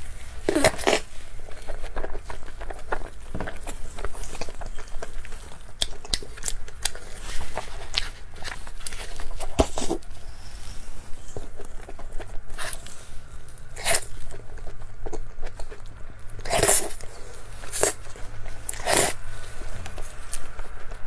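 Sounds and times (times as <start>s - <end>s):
chewing and mouth smacks: 0.5s - 10.2s, 11.2s - 21.0s.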